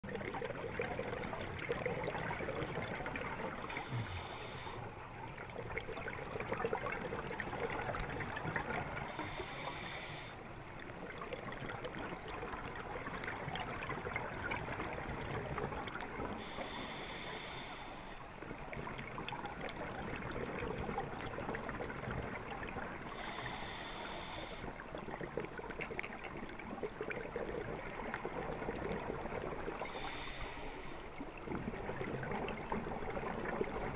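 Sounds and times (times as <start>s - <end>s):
steady underwater crackle: 0.0s - 33.9s.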